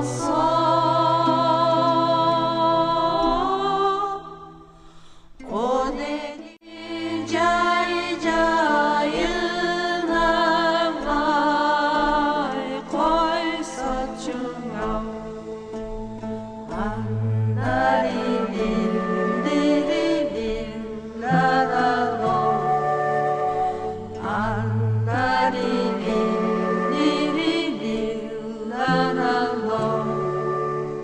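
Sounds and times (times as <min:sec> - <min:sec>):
person singing long wavering notes: 0:00.0 - 0:04.8, 0:05.4 - 0:31.0.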